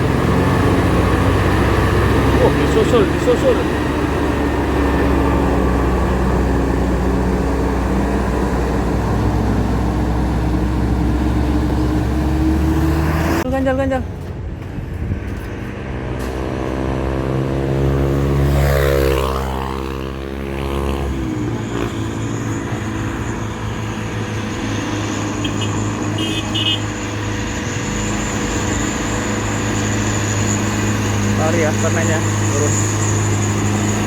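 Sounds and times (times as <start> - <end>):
truck engine passing by: 0.0 - 14.2, 15.1 - 34.0.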